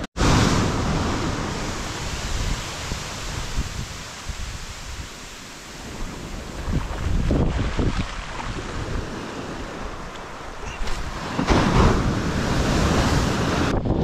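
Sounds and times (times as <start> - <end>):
surf washing onto beach: 0.0 - 14.0
wind buffeting microphone: 0.2 - 14.0.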